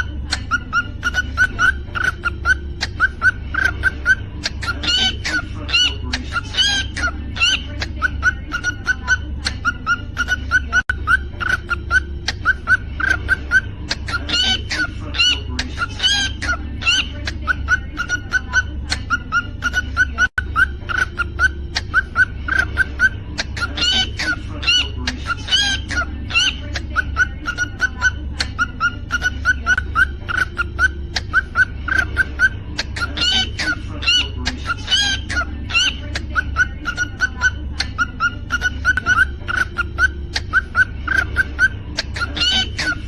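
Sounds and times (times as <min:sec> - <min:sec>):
cockatiel chirping: 0:00.0 - 0:43.0
cockatiel whistled song: 0:00.0 - 0:43.0.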